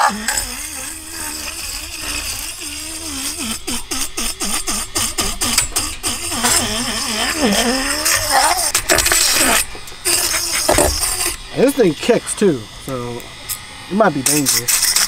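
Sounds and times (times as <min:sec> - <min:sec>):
electric fish scaler motor: 0:00.0 - 0:15.0.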